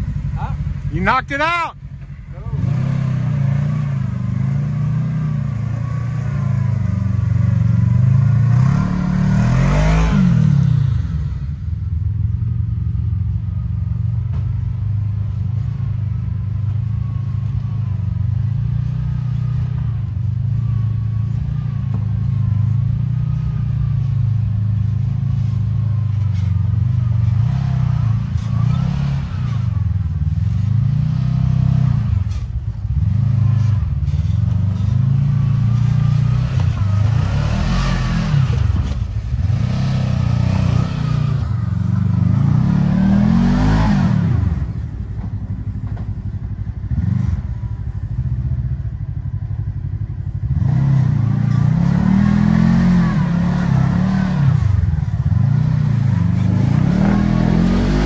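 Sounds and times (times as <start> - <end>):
engine revving with throttle blips: 0.0 - 11.8, 12.7 - 58.0.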